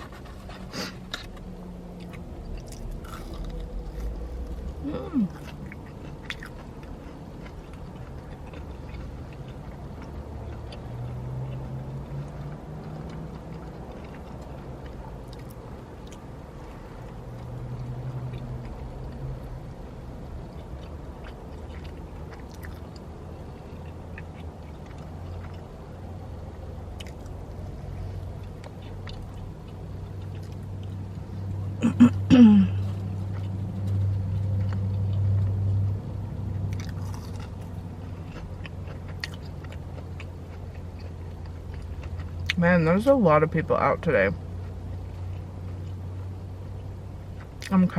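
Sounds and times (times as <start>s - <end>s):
person chewing food: 0.0s - 42.6s, 44.4s - 47.7s
steady low rumble: 0.0s - 47.9s.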